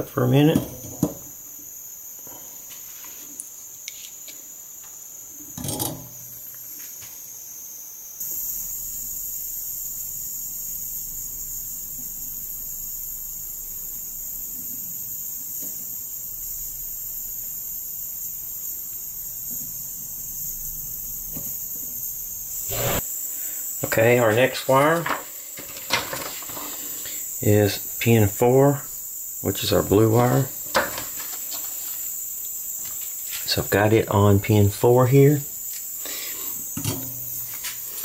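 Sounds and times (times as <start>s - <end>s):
high-pitched electrical whine: 0.0s - 38.0s.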